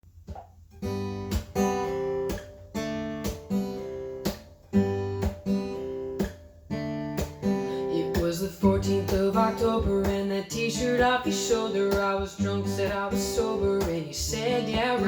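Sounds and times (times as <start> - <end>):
acoustic guitar strumming: 0.3 - 15.0.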